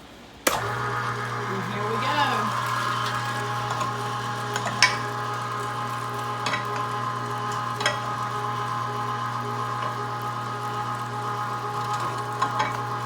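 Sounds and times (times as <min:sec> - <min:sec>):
electric meat grinder humming: 0:00.5 - 0:13.0.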